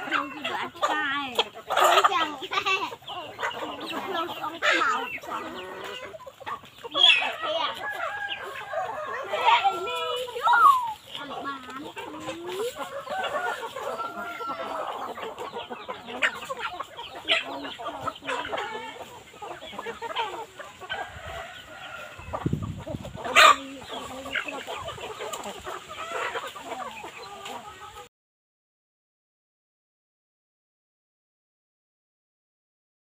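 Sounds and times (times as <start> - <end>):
chickens clucking: 0.0 - 28.1.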